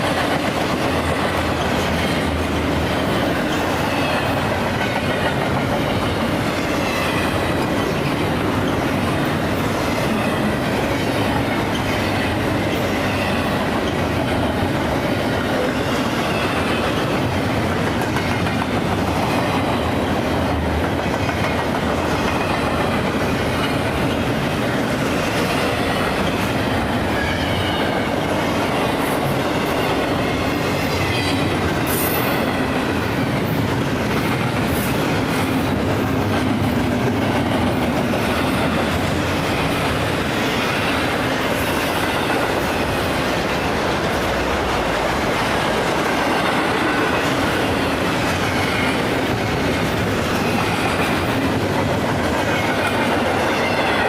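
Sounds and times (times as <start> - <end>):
train wheels clacking over rail joints: 0.0 - 54.0.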